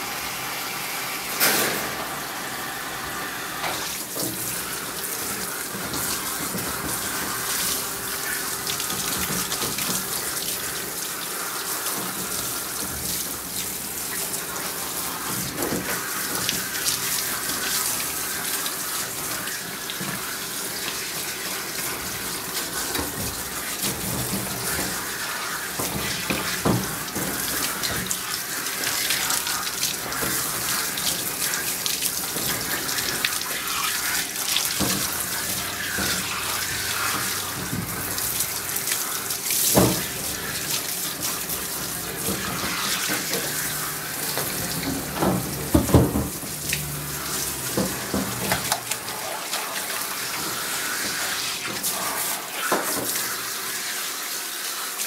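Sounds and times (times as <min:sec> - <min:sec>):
sprayer water hissing: 0:02.2 - 0:55.0.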